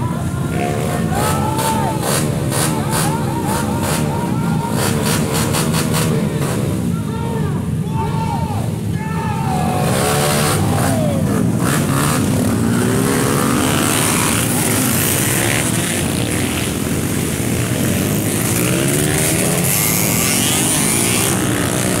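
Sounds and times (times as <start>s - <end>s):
din of motorcycles running: 0.0s - 22.0s
dirt bikes revving: 0.0s - 22.0s.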